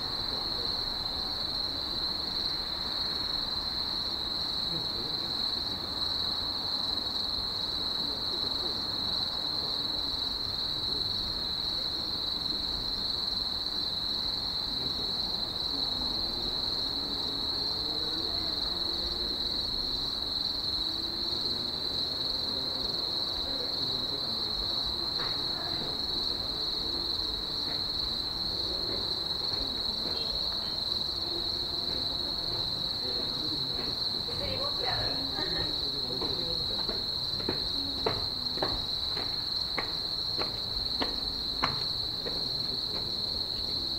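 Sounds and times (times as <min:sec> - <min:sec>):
night insects trilling: 0:00.0 - 0:43.9.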